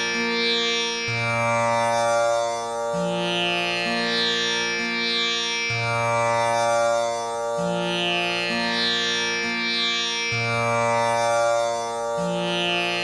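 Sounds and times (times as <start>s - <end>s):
tanpura drone: 0.0s - 13.0s.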